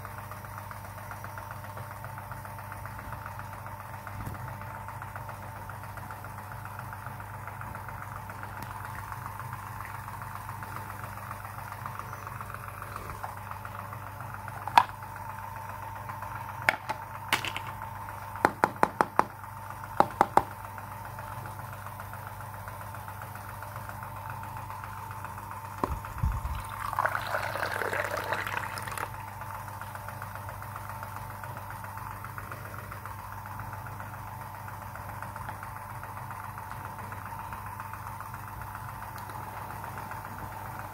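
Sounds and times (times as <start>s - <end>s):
background hum: 0.0s - 40.9s.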